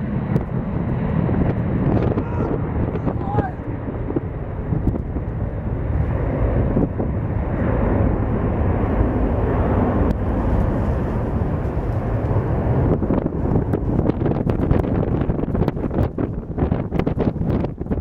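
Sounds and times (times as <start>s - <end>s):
distant jet engines rumbling: 0.0s - 18.0s.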